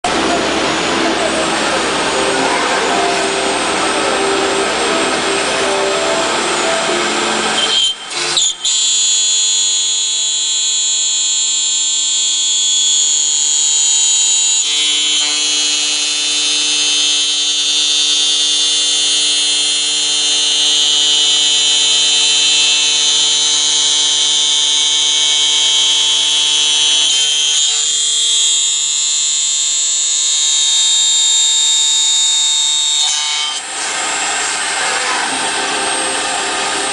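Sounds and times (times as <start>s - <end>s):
router cutting aluminium: 0.0s - 36.9s
spindle high-pitched whine: 0.0s - 36.9s.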